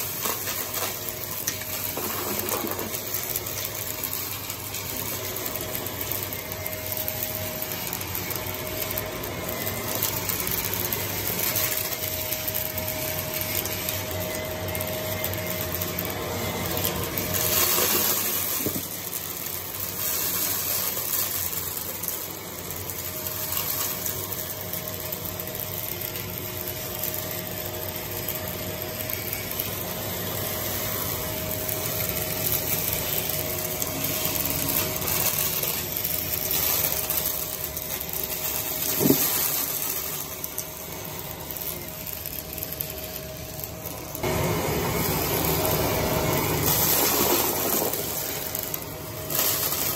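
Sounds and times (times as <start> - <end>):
debris rattling through vacuum: 0.0 - 49.9
vacuum cleaner motor hum: 0.0 - 49.9.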